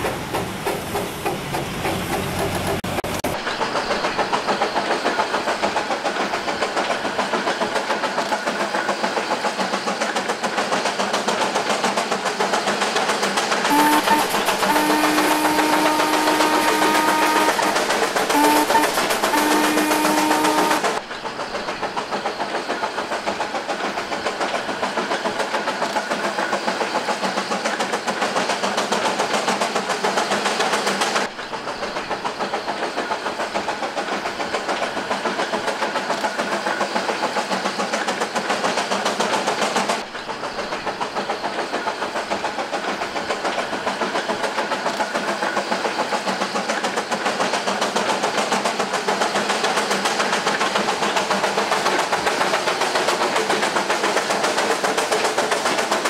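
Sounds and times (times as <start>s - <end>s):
steam locomotive exhaust beating: 9.3s - 56.0s.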